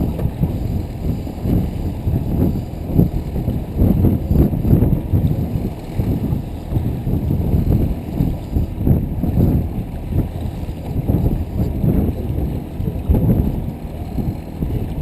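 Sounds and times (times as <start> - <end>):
boat motor: 0.0 - 15.0
water: 0.0 - 15.0
wind buffeting microphone: 0.0 - 15.0.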